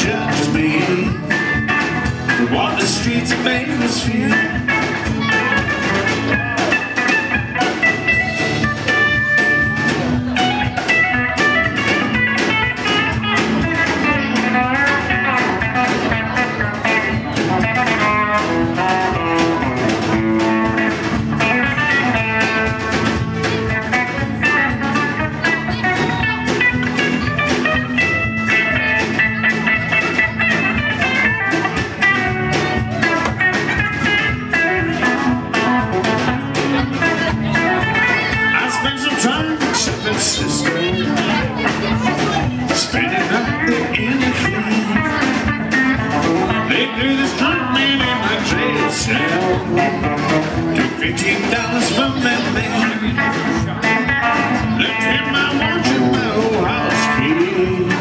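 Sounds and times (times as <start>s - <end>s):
country-rock band playing: 0.0s - 58.0s.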